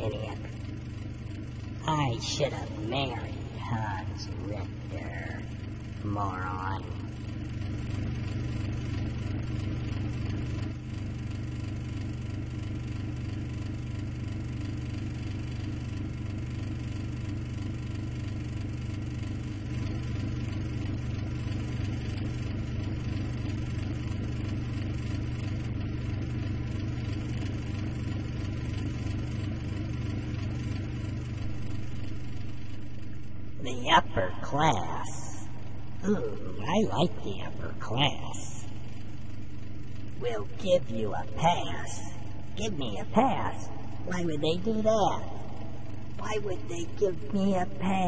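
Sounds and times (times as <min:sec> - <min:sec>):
spaceship engine droning hum: 0:00.0 - 0:48.0.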